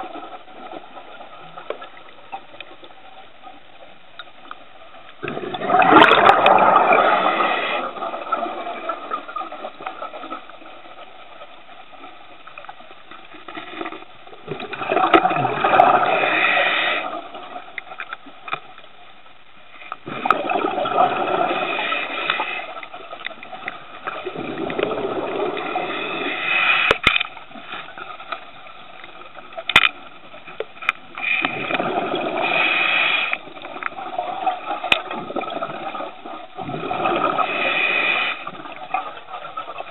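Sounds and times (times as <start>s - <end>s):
quiet hiss: 0.0s - 39.9s.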